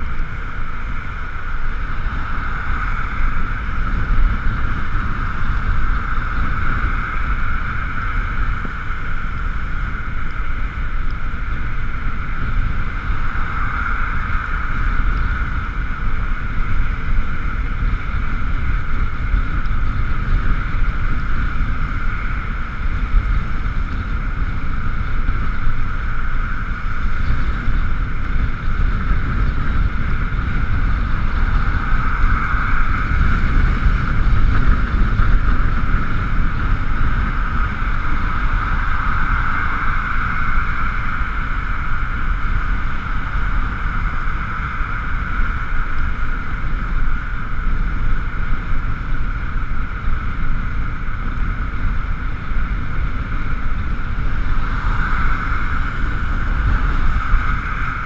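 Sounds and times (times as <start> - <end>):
steady high whine: 0.0 - 58.0
wind rumble on microphone: 0.0 - 58.0.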